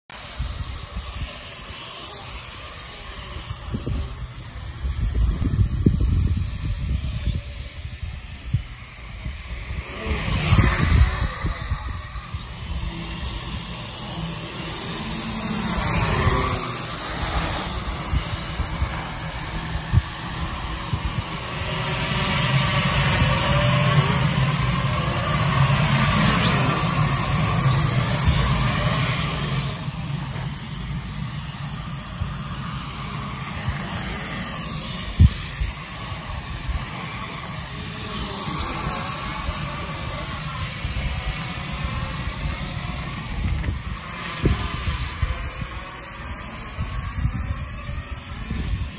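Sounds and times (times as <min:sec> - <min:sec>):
drone propellers whining: 0:00.1 - 0:48.9.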